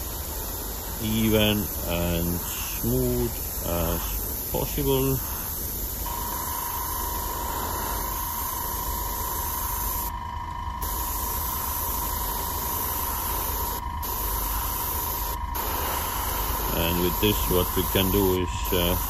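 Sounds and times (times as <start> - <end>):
airbrush air hiss: 0.0 - 10.2, 10.8 - 19.0
high whine: 0.0 - 19.0.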